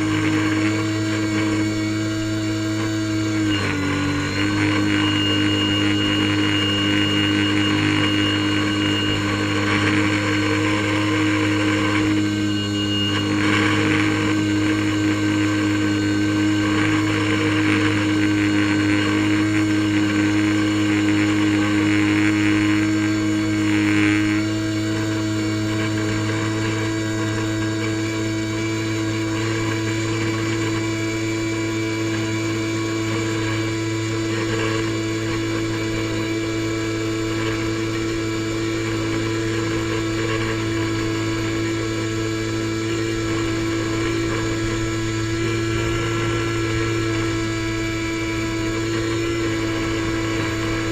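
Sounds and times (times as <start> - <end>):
airboat engine droning: 0.0 - 50.9.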